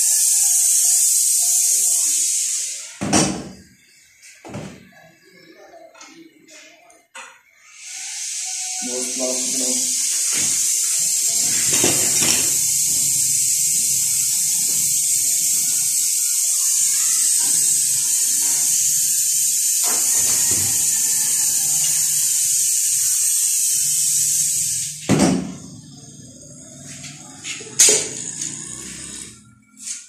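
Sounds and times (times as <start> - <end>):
welding torch flame hissing: 0.0 - 3.0, 7.6 - 30.0.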